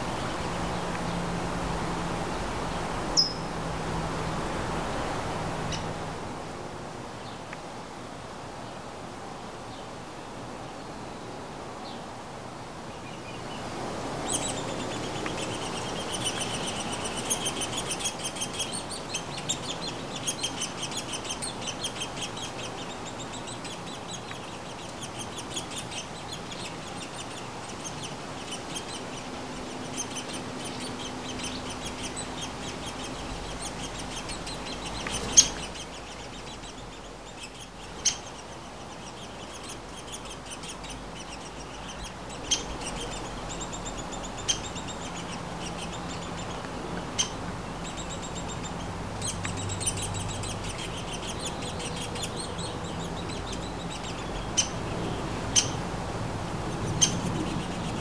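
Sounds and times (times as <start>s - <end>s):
nestlings begging calls: 0.0s - 6.3s, 13.0s - 58.0s.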